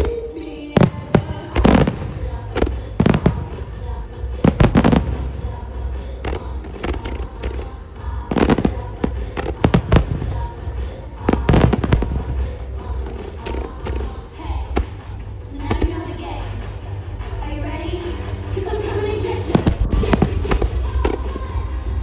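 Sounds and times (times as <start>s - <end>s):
firework shells booming: 0.0s - 17.4s, 18.0s - 21.6s
pop music over loudspeakers: 0.0s - 22.0s.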